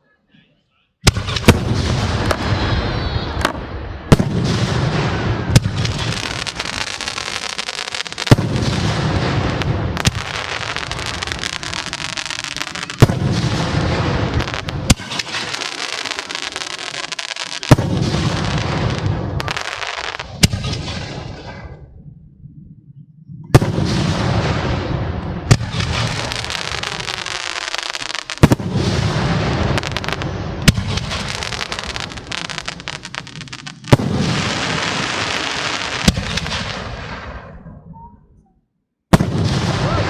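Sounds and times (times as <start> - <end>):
fireworks exploding: 1.0 - 21.9, 23.5 - 38.2, 39.1 - 40.0.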